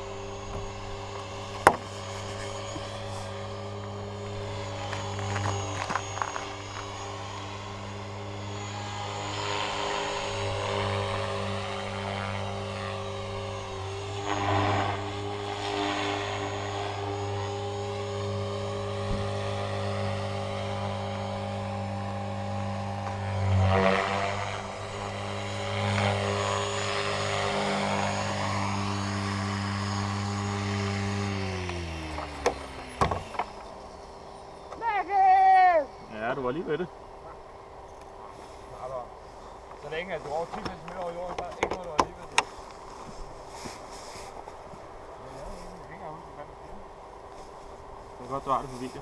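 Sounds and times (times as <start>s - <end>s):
model helicopter rotor drone: 0.0s - 49.0s.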